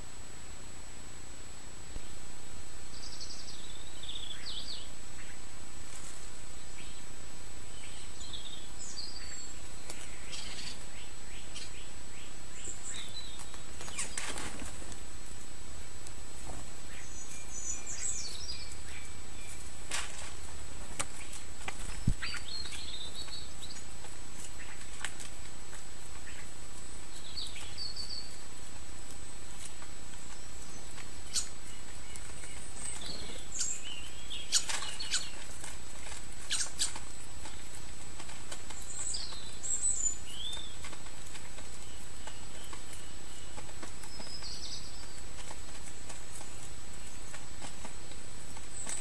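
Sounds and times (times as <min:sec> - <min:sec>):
small birds chirping: 0:02.0 - 0:49.0.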